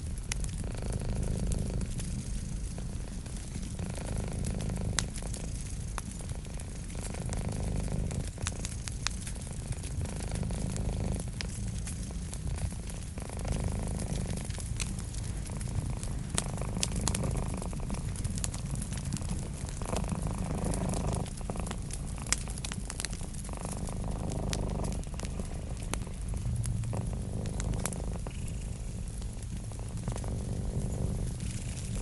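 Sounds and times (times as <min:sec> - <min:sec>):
cat purring: 0:00.0 - 0:32.0
wood fire crackling: 0:00.0 - 0:32.0.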